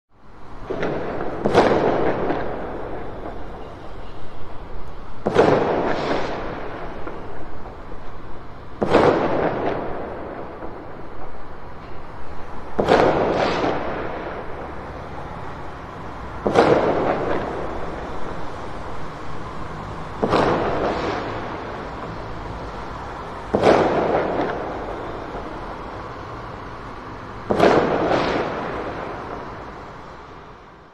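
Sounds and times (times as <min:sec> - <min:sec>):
distant fireworks bangs: 0:00.5 - 0:30.9
rolling echo: 0:00.6 - 0:30.7.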